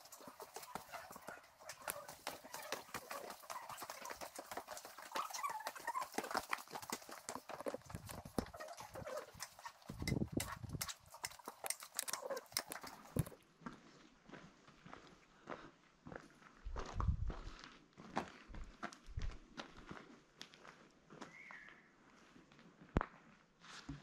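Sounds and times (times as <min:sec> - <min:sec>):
footsteps on dirt trail: 0:00.0 - 0:21.5.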